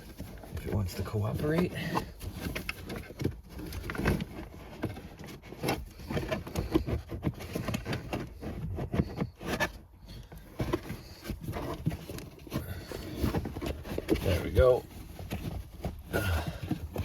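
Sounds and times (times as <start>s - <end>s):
carpet rustling and scraping: 0.0s - 17.0s.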